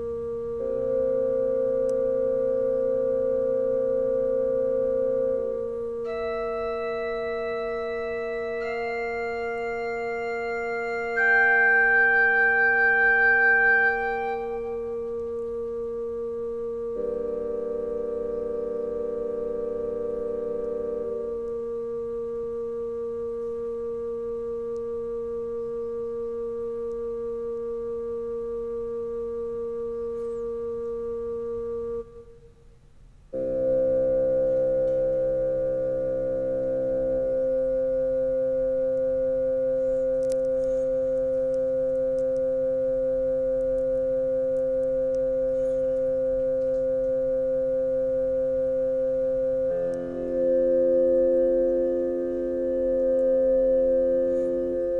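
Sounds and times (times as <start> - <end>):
steady bass note: 0.0 - 32.4, 33.3 - 54.9
keyboard melody with long notes: 0.0 - 32.7, 33.3 - 54.9.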